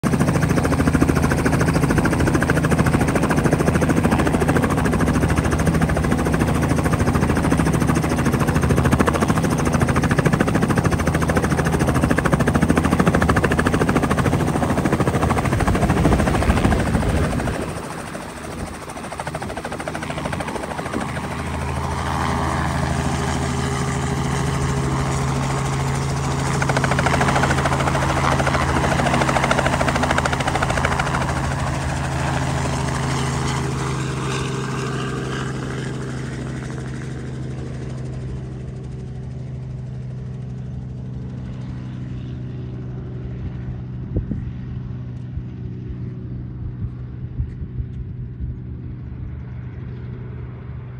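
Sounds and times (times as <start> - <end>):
helicopter flying past: 0.0 - 50.9.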